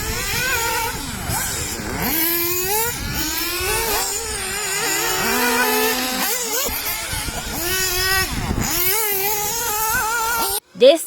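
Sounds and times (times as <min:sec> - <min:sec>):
remote-control car motors whining: 0:00.0 - 0:10.6.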